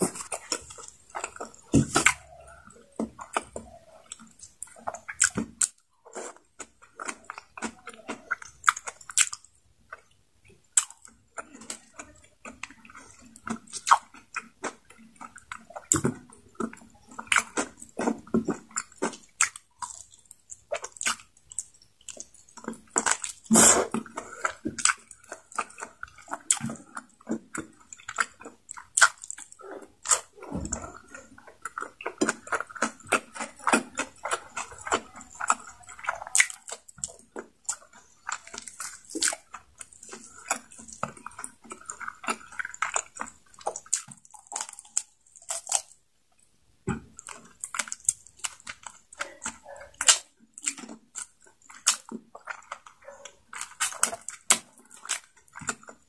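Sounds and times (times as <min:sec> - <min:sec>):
person chewing with mouth smacks: 0:00.0 - 0:56.0.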